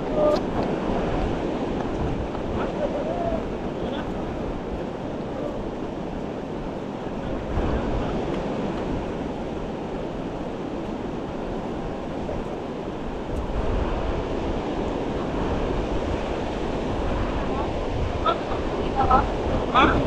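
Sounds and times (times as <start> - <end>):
ocean surf washing in: 0.0 - 20.0
wind rumbling on microphone: 0.0 - 20.0.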